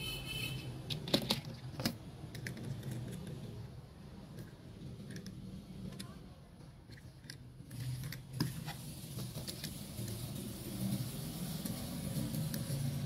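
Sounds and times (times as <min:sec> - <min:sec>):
toy cars clattering: 0:00.8 - 0:06.2, 0:06.8 - 0:13.0.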